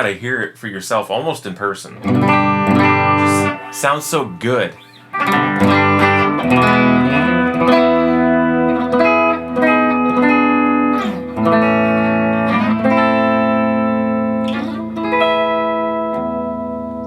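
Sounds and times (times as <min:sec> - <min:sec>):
electric guitar strummed chords: 0:02.0 - 0:17.0.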